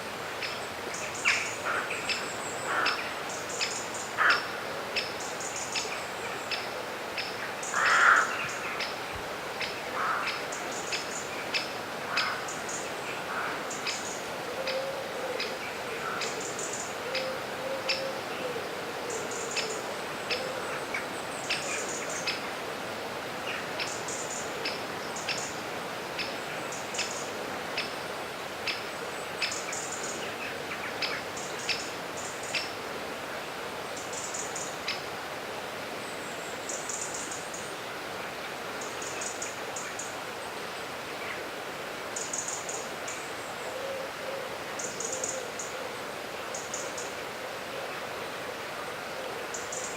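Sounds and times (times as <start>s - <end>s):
flowing river water: 0.0s - 44.8s.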